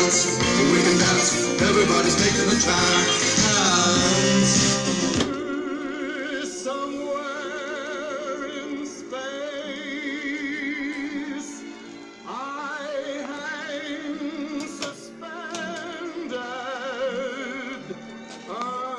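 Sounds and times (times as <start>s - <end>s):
singing with vibrato on radio: 0.0s - 18.9s.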